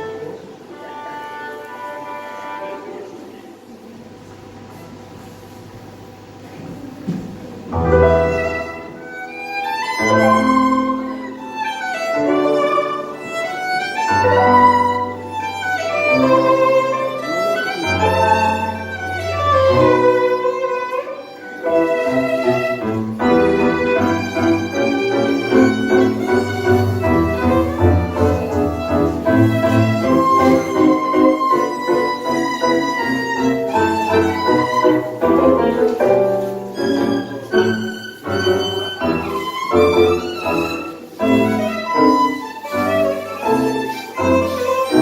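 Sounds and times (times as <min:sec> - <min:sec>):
tango music led by violin: 0:00.0 - 0:03.2, 0:07.1 - 0:45.0.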